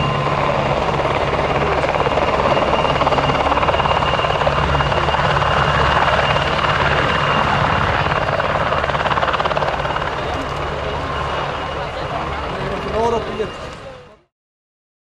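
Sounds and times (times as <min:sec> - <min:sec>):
helicopter rotor beating: 0:00.0 - 0:14.2
high engine whine: 0:00.0 - 0:14.3.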